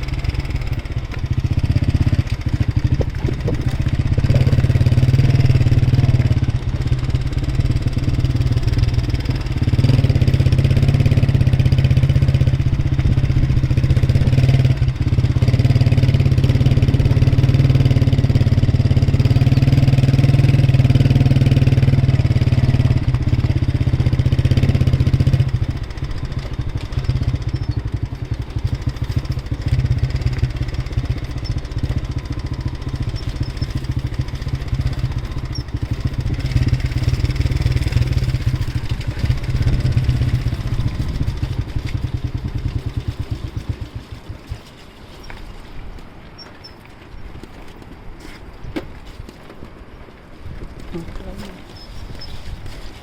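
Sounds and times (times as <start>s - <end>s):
vehicle engine running: 0.0s - 48.6s.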